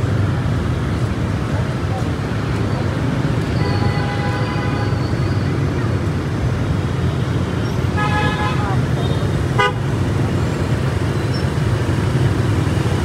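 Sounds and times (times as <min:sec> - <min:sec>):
motorbike traffic rumble: 0:00.0 - 0:13.0.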